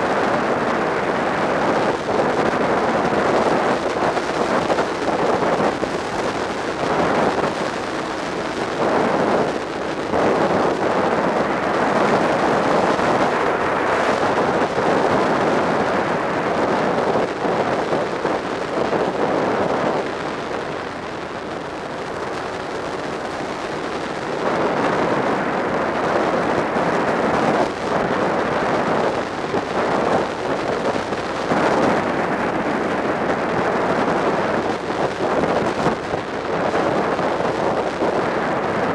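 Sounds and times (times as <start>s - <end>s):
road noise: 0.0s - 38.9s
wind rushing over microphone: 0.0s - 38.9s.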